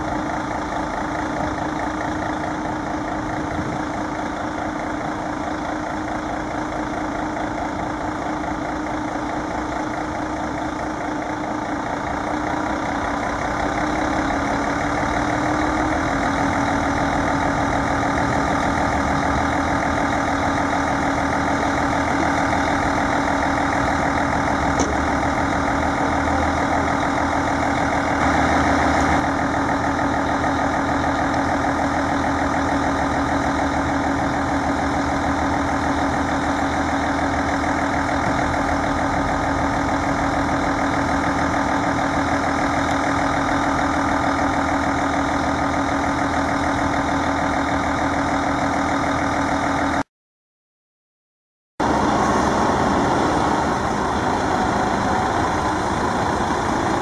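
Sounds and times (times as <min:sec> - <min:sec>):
diesel engine idling: 0:00.0 - 0:50.1, 0:51.8 - 0:57.0.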